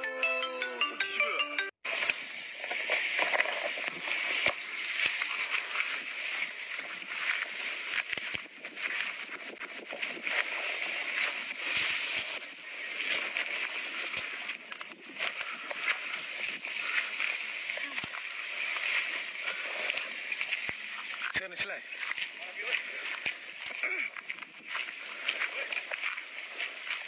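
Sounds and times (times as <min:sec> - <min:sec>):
rushing water: 0:01.9 - 0:27.0.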